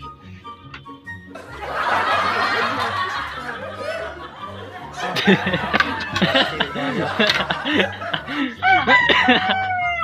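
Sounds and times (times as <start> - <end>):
background music: 0.0 - 10.0
people laughing: 1.4 - 10.0.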